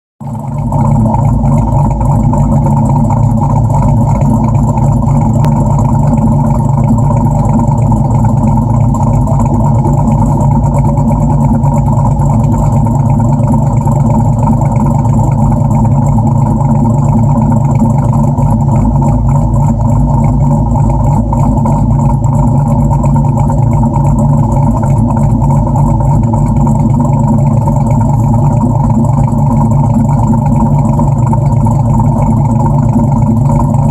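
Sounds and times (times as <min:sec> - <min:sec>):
car engine idling loudly: 0:00.2 - 0:33.9.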